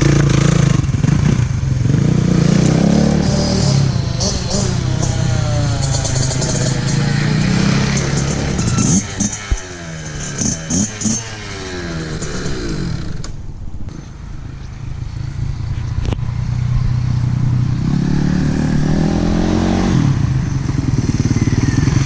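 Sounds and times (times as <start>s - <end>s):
dirt bike engine revving: 0.0s - 13.3s, 15.3s - 22.0s.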